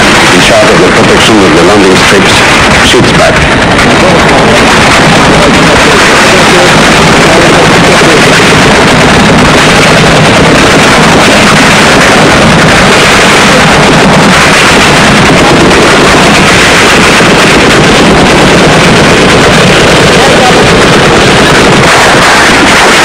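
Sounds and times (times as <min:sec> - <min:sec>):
helicopter engine noise: 0:00.0 - 0:23.0
helicopter rotors beating: 0:00.0 - 0:23.0.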